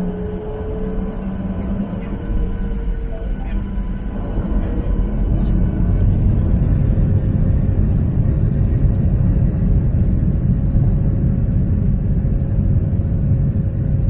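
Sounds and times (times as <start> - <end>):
low rumble of jet engines: 0.0 - 14.0.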